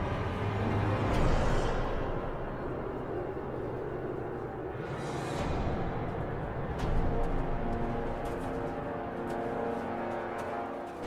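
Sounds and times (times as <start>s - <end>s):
blizzard wind blowing: 0.0s - 11.0s.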